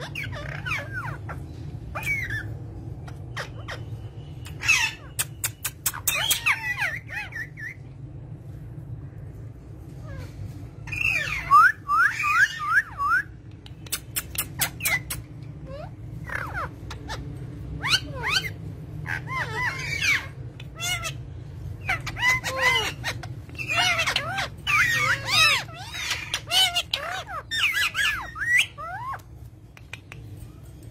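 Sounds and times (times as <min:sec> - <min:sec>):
parrot squawking and chirping: 0:00.0 - 0:30.9
steady low hum: 0:00.0 - 0:30.9.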